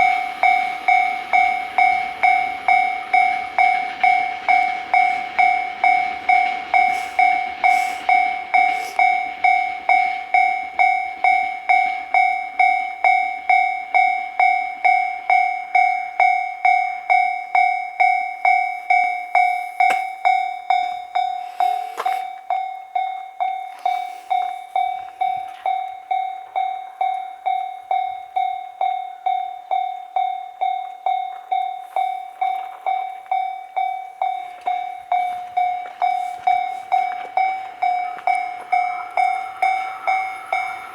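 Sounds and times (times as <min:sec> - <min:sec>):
level-crossing bell ringing: 0:00.0 - 0:40.9
passing train rumble: 0:00.0 - 0:40.9.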